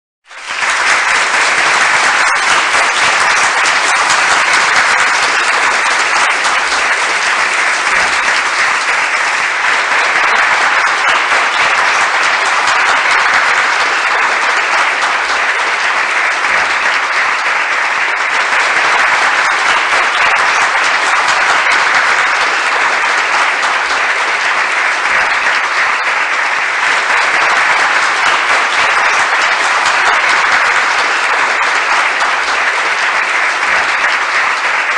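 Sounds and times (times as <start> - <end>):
crowd applauding: 0.2 - 34.9.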